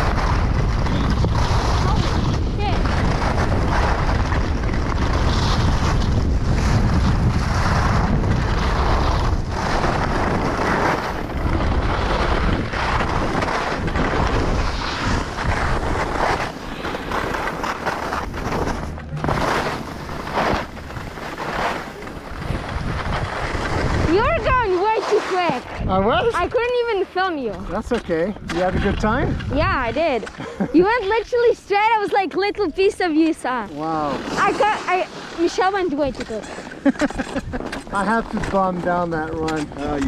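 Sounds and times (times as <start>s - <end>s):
wind buffeting microphone: 0.0s - 33.6s
skis scraping on snow: 0.0s - 40.0s.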